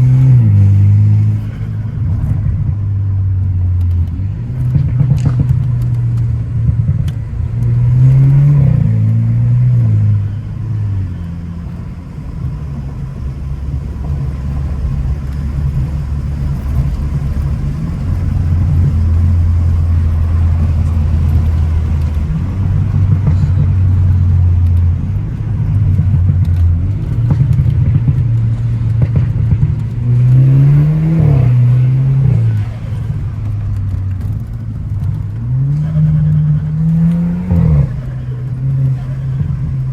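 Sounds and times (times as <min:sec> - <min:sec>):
car engine pulling hard: 0:00.0 - 0:39.9.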